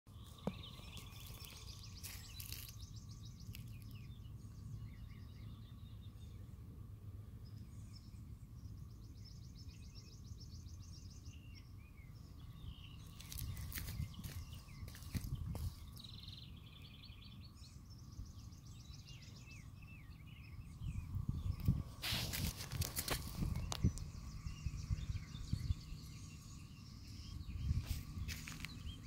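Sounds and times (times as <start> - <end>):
small birds singing trills: 0.1 - 29.0
steady low rumble: 0.1 - 29.0.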